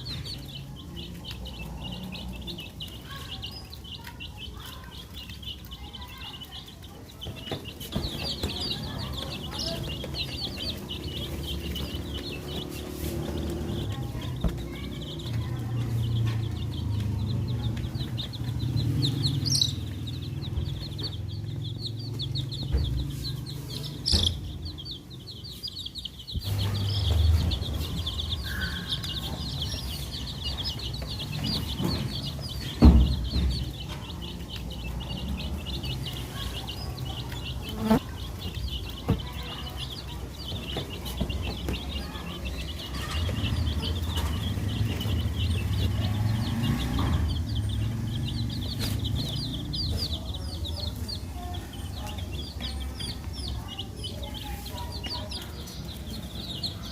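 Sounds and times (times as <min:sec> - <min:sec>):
baby chicks peeping: 0:00.0 - 0:56.9.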